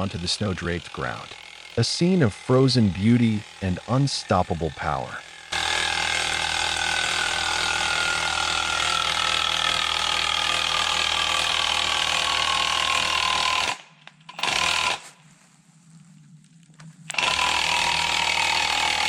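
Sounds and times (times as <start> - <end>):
chainsaw cutting under load: 0.0 - 15.2, 17.1 - 19.0.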